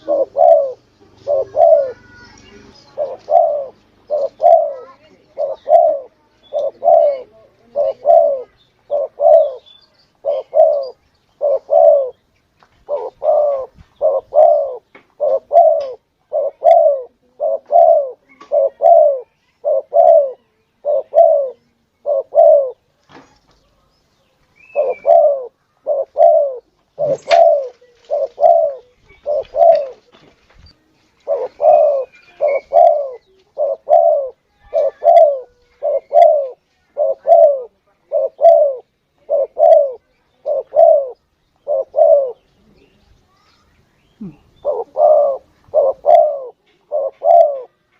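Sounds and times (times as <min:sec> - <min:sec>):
dove cooing: 0:00.0 - 0:12.2, 0:12.8 - 0:22.8, 0:24.6 - 0:30.2, 0:31.2 - 0:42.9, 0:44.2 - 0:47.9.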